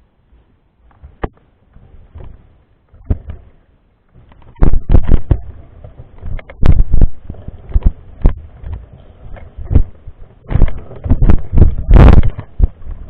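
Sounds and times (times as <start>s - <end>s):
bike thumping over rough trail: 2.0s - 13.0s.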